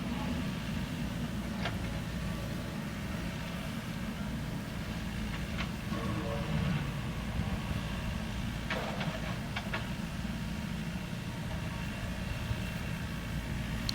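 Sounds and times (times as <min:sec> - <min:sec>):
diesel engine rumbling: 0:00.0 - 0:13.9.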